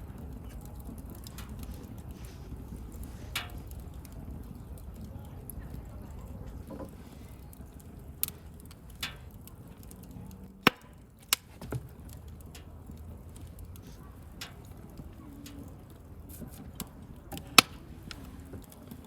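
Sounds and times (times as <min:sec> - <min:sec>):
fire crackling pops: 0:00.0 - 0:19.0
wood fire rumbling: 0:00.0 - 0:19.0.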